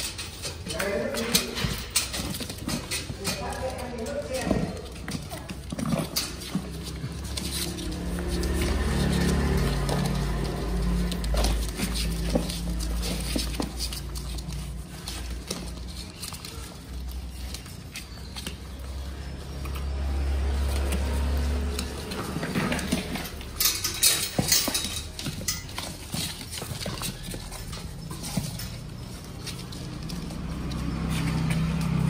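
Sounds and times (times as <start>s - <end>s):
rustling on cardboard: 0.0s - 19.7s, 25.0s - 32.0s
puppies suckling and squirming: 0.0s - 32.0s.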